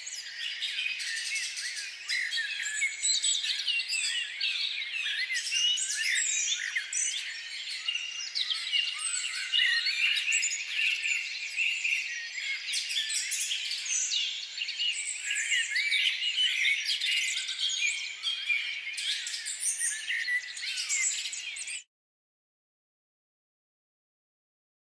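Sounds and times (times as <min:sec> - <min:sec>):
birds chirping chorus: 0:00.0 - 0:21.9.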